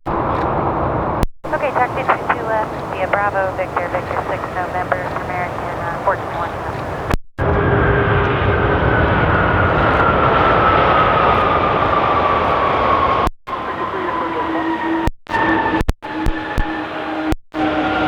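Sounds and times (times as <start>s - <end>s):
jet engines passing with whine: 0.1s - 18.0s.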